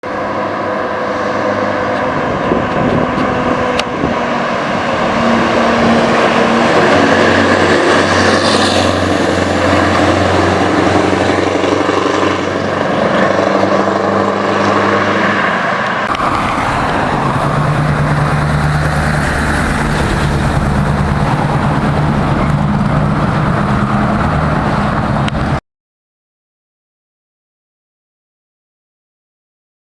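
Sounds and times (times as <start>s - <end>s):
diesel truck engine running loudly: 0.0s - 25.6s.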